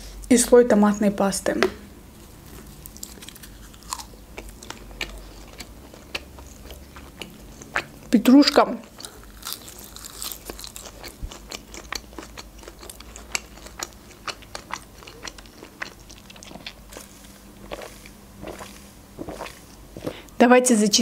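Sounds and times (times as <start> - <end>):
crisp chewing crunches: 2.8 - 20.4.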